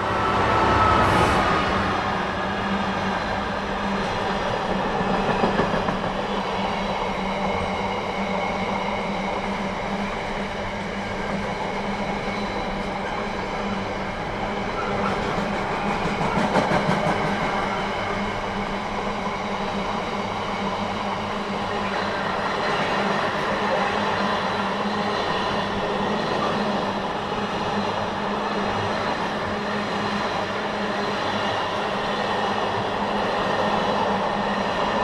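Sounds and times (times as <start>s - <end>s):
freight train wheels rumbling on rail: 0.0s - 35.0s.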